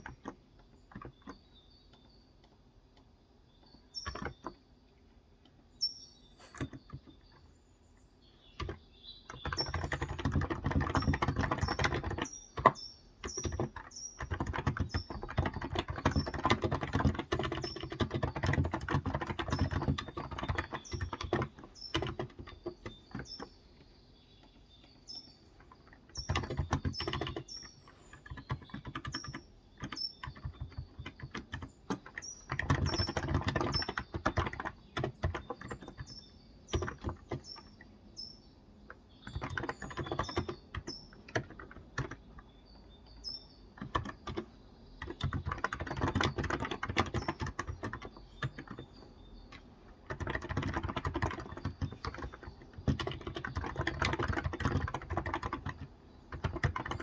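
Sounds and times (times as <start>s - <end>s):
keyboard typing: 0.0s - 4.6s, 6.4s - 7.5s, 8.5s - 38.1s, 38.7s - 57.0s
birds chirping: 0.0s - 57.0s.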